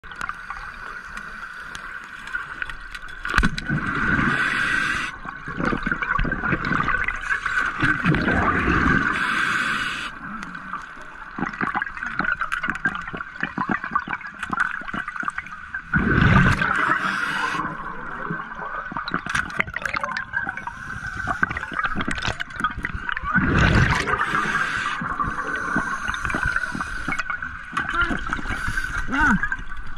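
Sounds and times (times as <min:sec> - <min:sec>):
underwater water rush: 0:00.0 - 0:29.9
gurgling bubble bursts: 0:03.3 - 0:09.3, 0:10.3 - 0:29.9.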